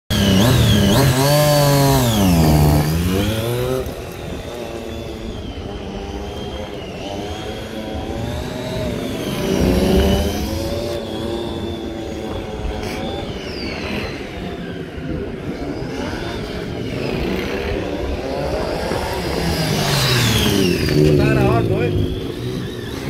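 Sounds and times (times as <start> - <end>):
motorcycle engine revving: 0.1 - 23.0.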